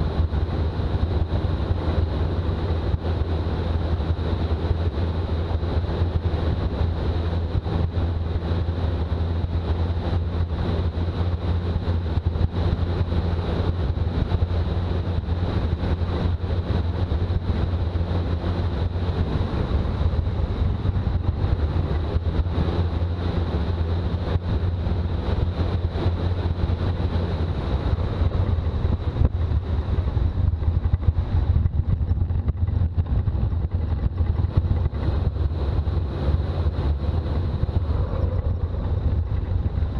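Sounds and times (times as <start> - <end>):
diesel engine running: 0.0 - 39.9
road and wind noise: 0.0 - 39.9.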